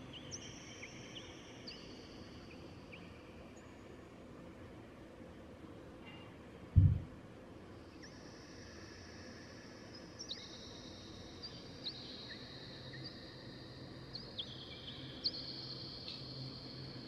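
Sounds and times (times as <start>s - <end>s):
faint birds chirping: 0.0s - 17.0s
low steady hum: 0.0s - 17.0s.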